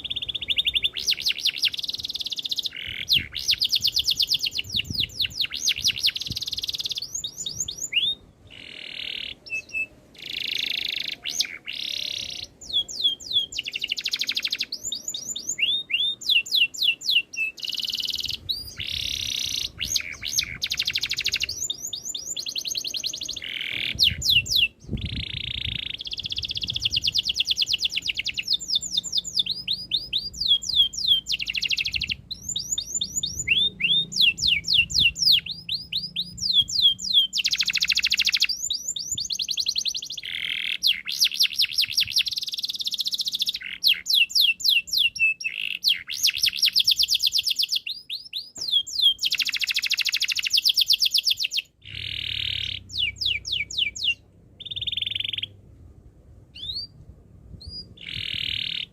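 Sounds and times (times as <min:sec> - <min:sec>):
canary singing: 0:00.0 - 0:55.6, 0:56.5 - 0:57.0, 0:57.6 - 0:58.9.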